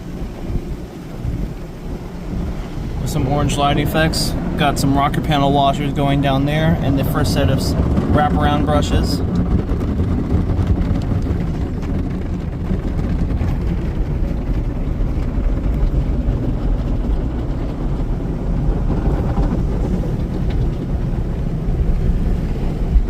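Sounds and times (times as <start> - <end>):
car wash brushes and sprayers: 0.0 - 23.0
low rumble: 0.0 - 23.0.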